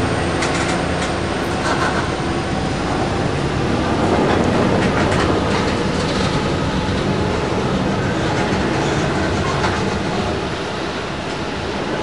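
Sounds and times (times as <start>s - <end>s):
wheels clacking on rail joints: 0.0s - 10.6s
steel wheels rumbling on rail: 0.0s - 12.0s.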